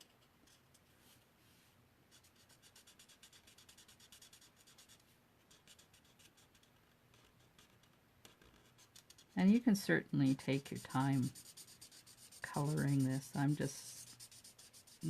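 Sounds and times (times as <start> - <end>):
marker scratching on card: 2.1 - 15.0.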